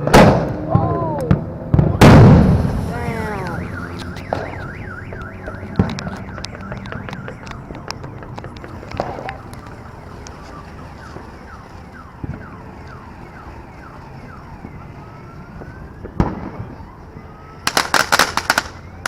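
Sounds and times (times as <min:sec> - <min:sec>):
fireworks popping and crackling: 0:00.0 - 0:19.0
electronic siren: 0:02.9 - 0:19.0.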